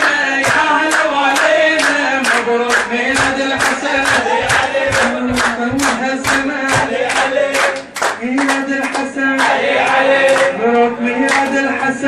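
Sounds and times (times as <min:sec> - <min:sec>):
group hand clapping: 0:00.0 - 0:12.0
men's chorus chanting in unison: 0:00.0 - 0:12.0.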